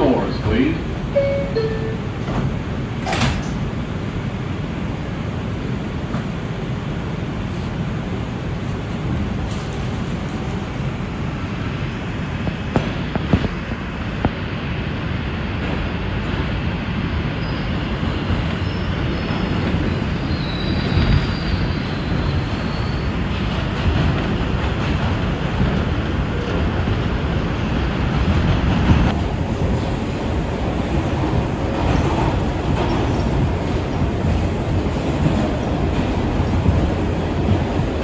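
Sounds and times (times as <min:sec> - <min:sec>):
subway wheels rumbling on rail: 0:00.0 - 0:38.0.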